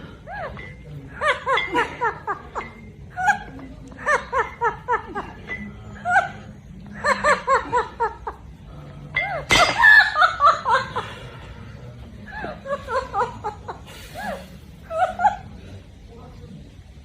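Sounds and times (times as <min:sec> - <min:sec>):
people laughing: 0:00.0 - 0:15.8.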